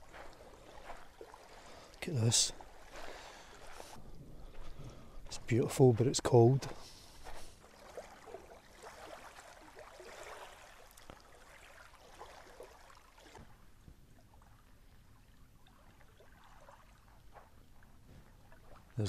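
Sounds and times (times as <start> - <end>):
small waves lapping on pebbles: 0.0 - 5.6, 6.7 - 19.0.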